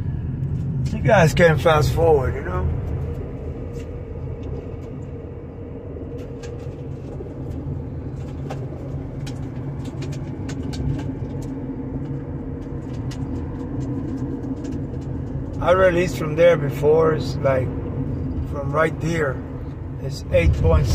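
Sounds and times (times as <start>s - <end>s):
car road and engine rumble: 0.0s - 20.9s.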